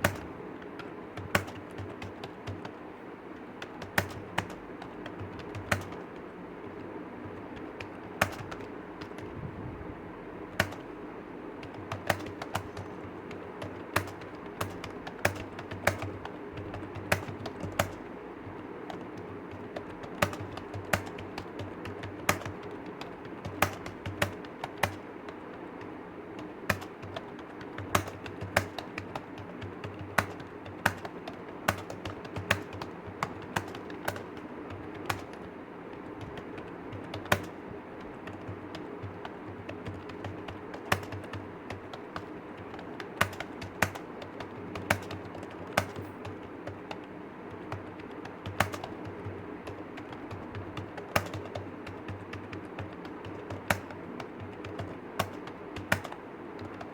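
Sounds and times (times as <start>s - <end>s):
keyboard keystroke clicks: 0.0s - 2.8s, 3.4s - 6.3s, 7.2s - 9.3s, 10.5s - 11.0s, 11.6s - 56.9s
steady low hum: 0.0s - 56.9s.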